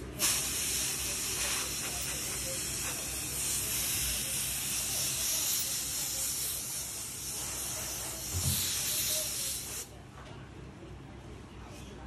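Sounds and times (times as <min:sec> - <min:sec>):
air blow gun hissing: 0:00.0 - 0:09.9.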